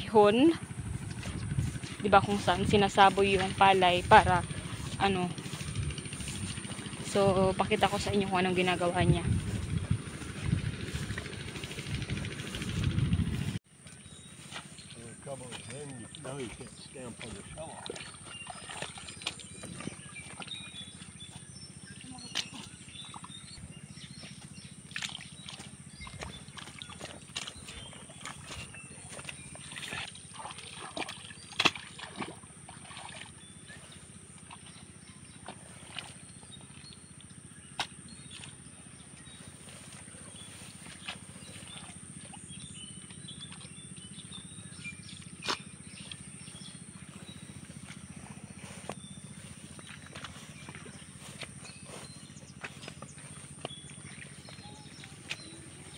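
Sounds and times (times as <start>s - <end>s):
hands squelching in mud and water: 0.8s - 12.8s, 13.4s - 23.6s, 24.2s - 55.9s.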